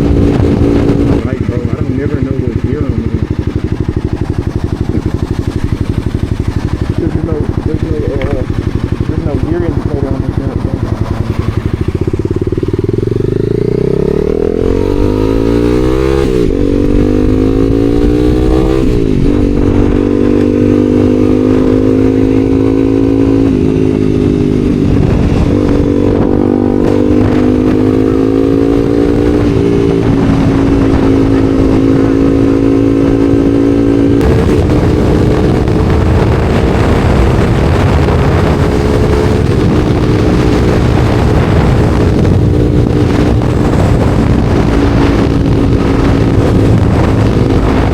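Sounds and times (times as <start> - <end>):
motorcycle engine accelerating: 0.0 - 47.9
wind rush: 0.0 - 47.9.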